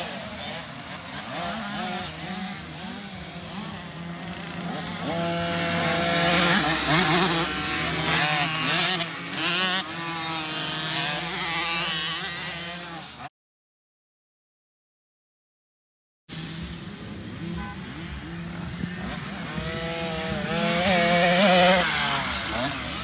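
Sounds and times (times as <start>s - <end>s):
dirt bikes buzzing and revving: 0.0s - 13.3s, 16.3s - 23.0s.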